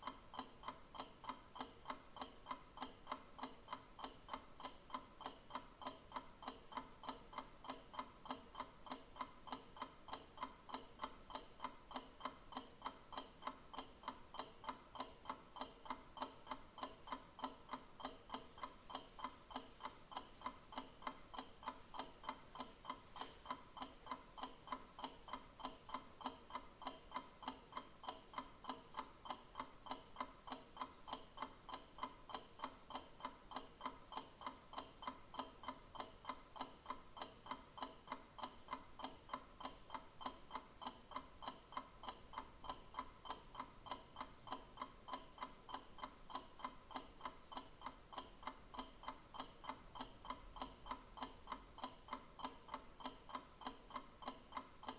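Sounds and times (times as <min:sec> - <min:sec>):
clock ticking: 0:00.0 - 0:54.9.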